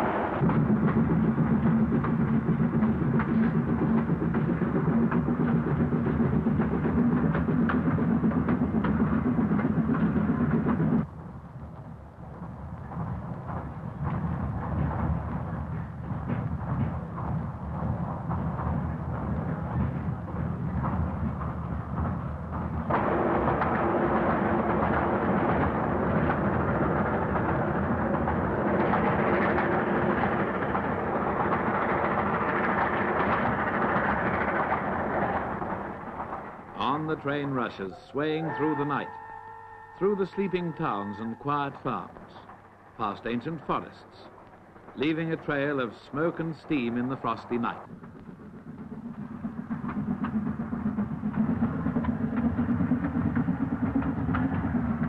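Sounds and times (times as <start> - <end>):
faint train clatter: 0.0 - 55.0
steam train rumble: 0.0 - 55.0.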